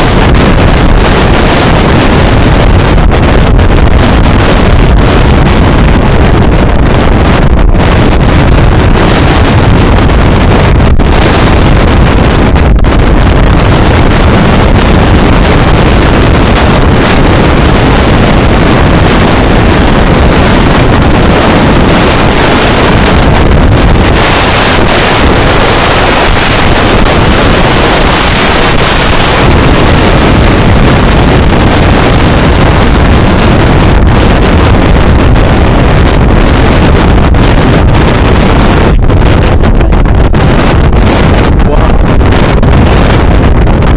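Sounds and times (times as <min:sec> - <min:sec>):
storm wind buffeting microphone: 0:00.0 - 0:43.9.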